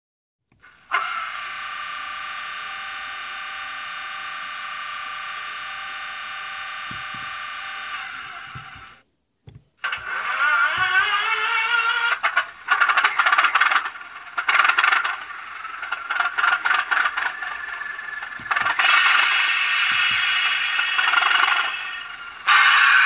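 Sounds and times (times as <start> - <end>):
steady buzzing tone: 0.7 - 9.0, 9.9 - 23.0.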